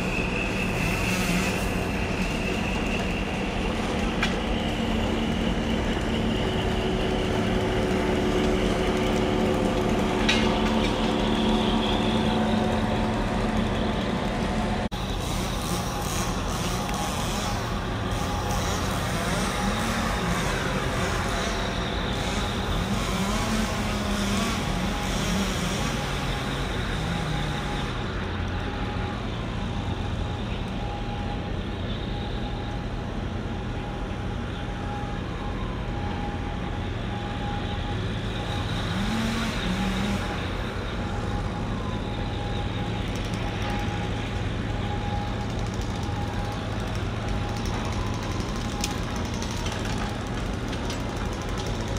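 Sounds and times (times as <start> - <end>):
traffic noise: 0.0 - 51.9.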